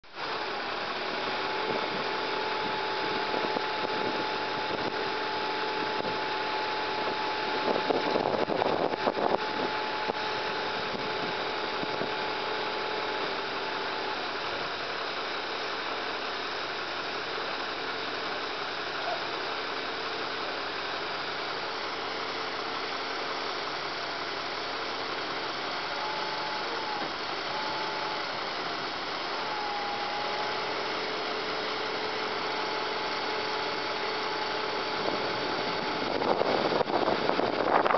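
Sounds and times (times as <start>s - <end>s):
hydraulic whine: 0.0s - 37.9s
truck engine running: 0.0s - 37.9s.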